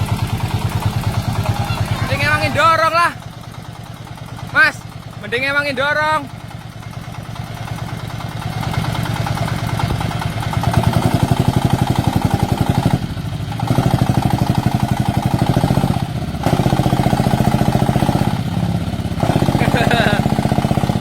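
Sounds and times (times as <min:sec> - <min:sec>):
diesel engine running hard: 0:00.0 - 0:21.0.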